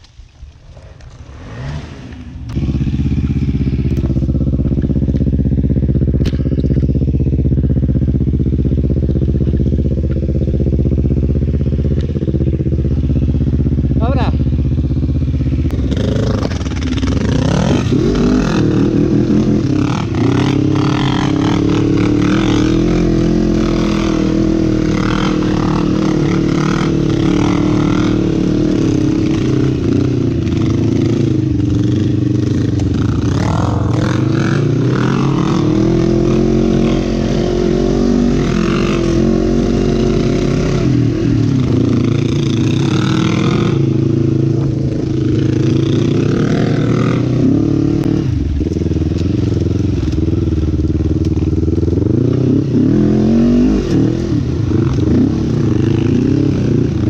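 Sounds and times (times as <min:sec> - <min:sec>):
quad bike engine revving: 0:00.9 - 0:57.0.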